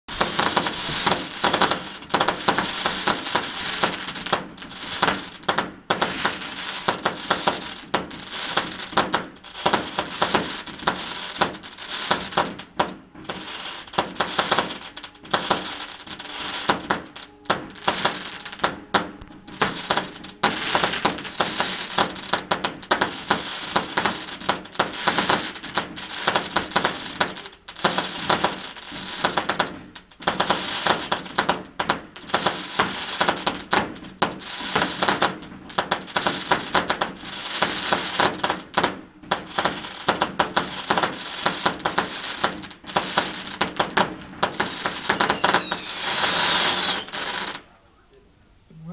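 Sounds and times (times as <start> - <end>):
fireworks bangs and crackles: 0.1 - 47.8
falling firework whistles: 0.1 - 48.0
hiss of burning fireworks: 0.1 - 48.2.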